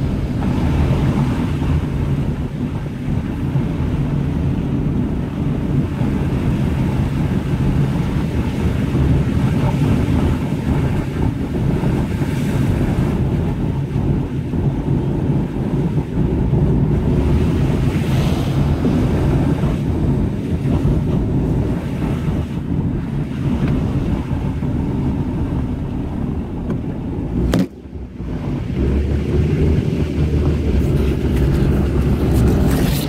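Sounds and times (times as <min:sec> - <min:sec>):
car tyres and engine rumble: 0:00.0 - 0:33.0.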